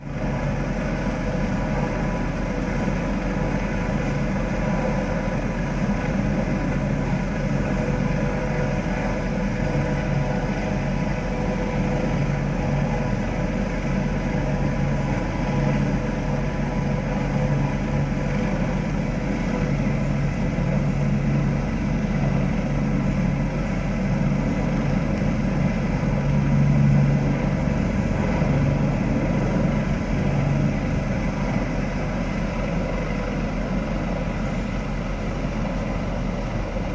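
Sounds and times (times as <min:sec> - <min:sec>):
heavy engine humming: 0:00.0 - 0:36.9.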